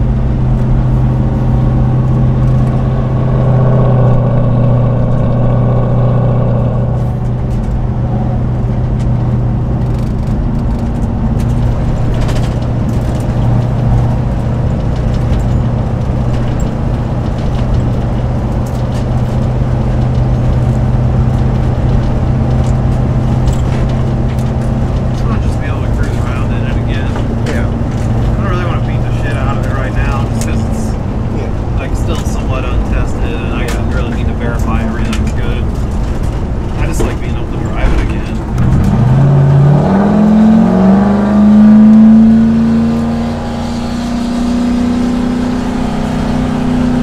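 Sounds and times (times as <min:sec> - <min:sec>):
car engine drone inside cabin: 0:00.0 - 0:47.0.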